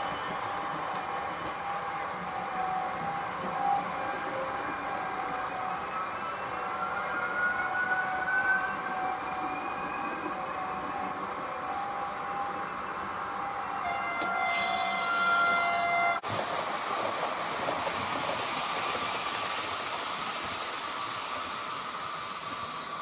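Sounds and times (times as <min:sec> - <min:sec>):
model train rumbling and whining: 0:00.0 - 0:23.0.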